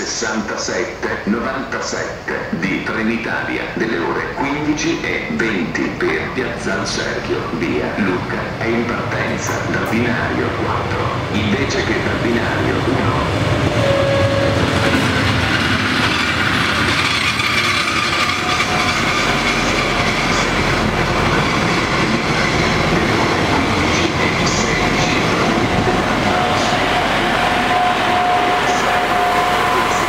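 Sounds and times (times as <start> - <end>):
wheel-on-rail rumble: 4.7 - 30.0.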